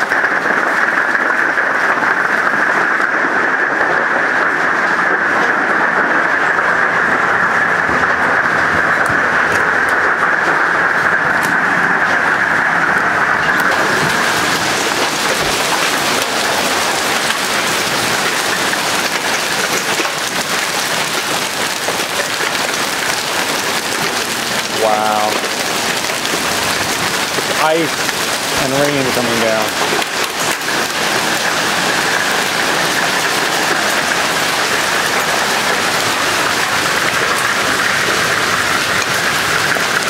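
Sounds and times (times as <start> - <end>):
hail and heavy rain: 0.0 - 40.0.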